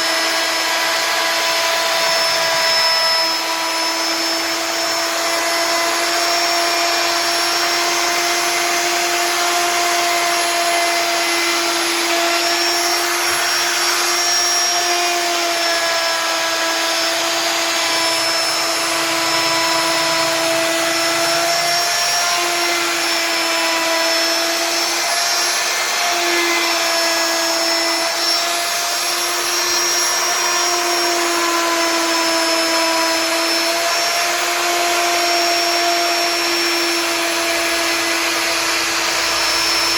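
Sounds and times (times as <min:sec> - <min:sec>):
wood router cutting wood: 0:00.0 - 0:39.9.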